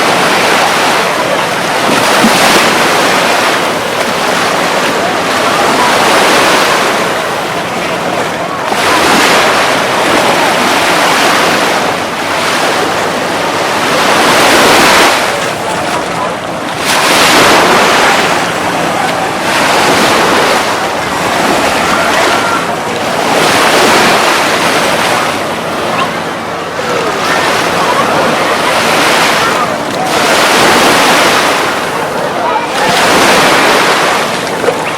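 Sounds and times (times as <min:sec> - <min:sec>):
ocean surf breaking: 0:00.0 - 0:34.9.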